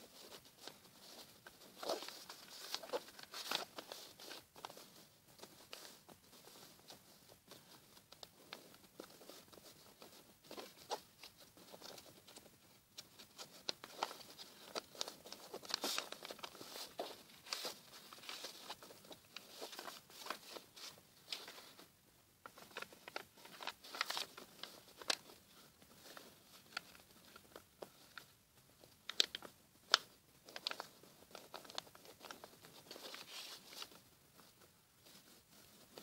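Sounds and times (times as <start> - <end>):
paper being folded and creased: 0.0 - 36.0.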